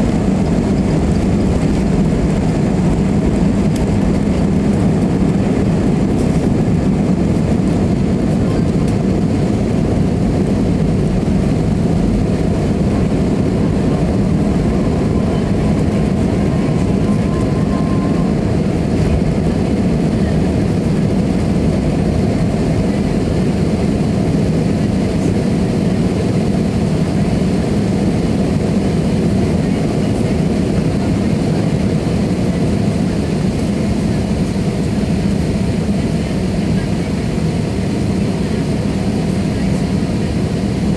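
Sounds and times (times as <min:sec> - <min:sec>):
aeroplane engines rumbling: 0:00.0 - 0:40.9.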